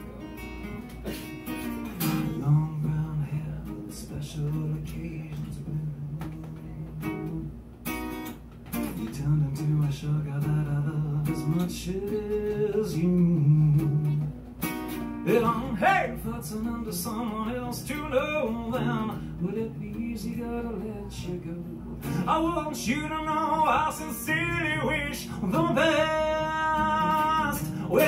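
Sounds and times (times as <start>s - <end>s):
acoustic guitar strumming: 0.0s - 28.0s
man singing: 2.0s - 7.5s, 8.9s - 14.2s, 15.2s - 28.0s.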